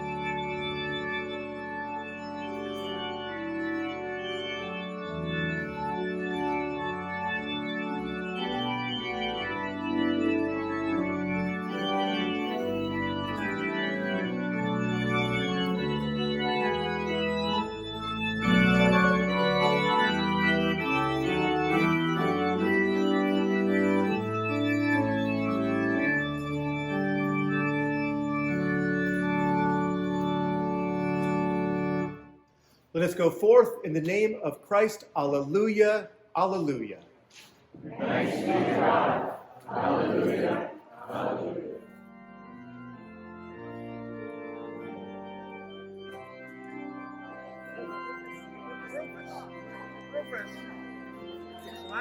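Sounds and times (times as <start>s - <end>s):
organ playing held chords: 0.0s - 36.9s, 38.0s - 52.0s.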